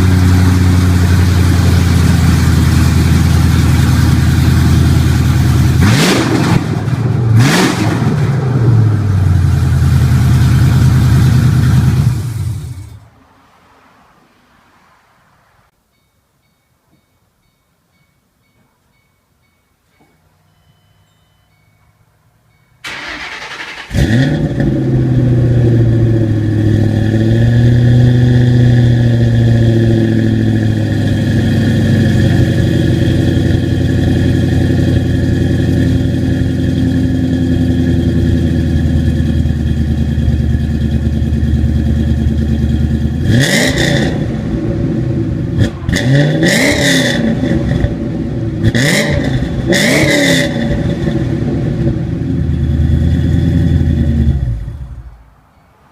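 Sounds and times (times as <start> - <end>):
car engine idling and revving: 0.0 - 15.8, 22.8 - 55.3.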